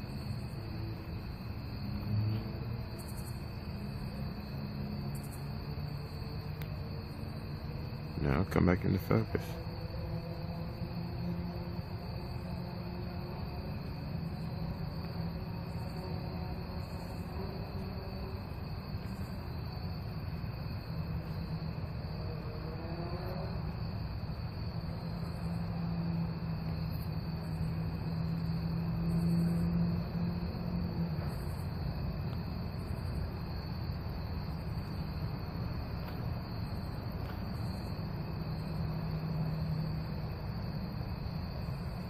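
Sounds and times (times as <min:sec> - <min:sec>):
low steady hum: 0:00.0 - 0:42.0
night insects trilling: 0:00.0 - 0:42.0.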